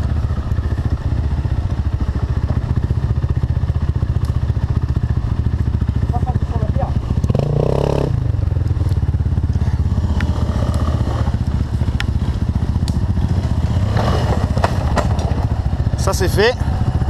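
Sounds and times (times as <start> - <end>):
quad bike engine idling: 0.0 - 17.0.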